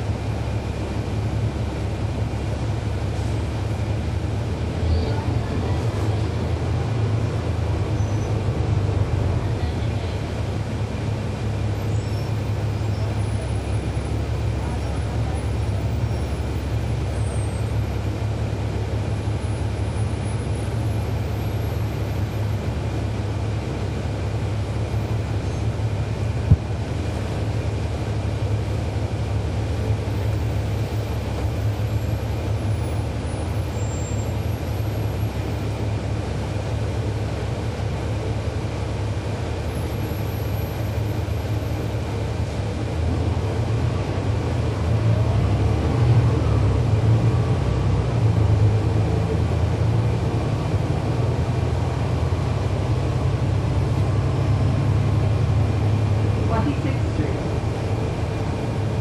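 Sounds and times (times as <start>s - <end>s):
diesel bus engine running: 0.0s - 59.0s.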